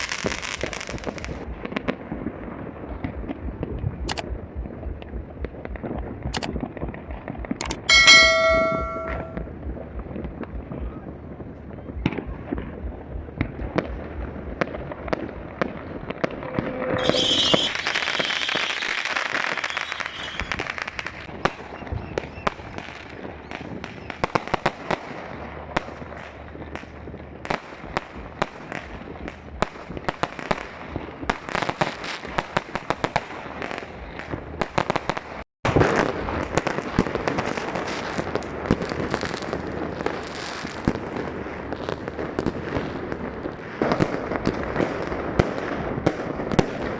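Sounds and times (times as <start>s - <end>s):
fireworks crackling and hissing: 0.0s - 7.6s, 9.5s - 46.9s
firecrackers banging and popping: 0.0s - 46.9s.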